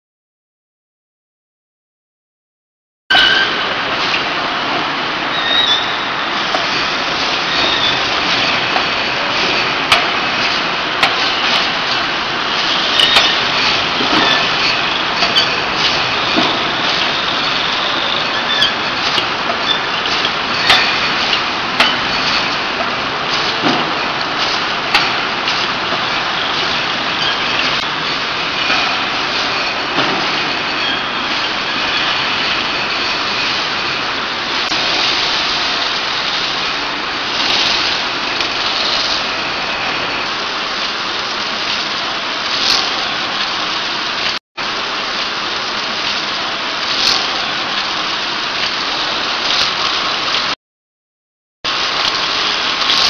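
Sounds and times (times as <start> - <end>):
bottling machinery hissing and clattering: 3.1 - 50.6, 51.7 - 53.0.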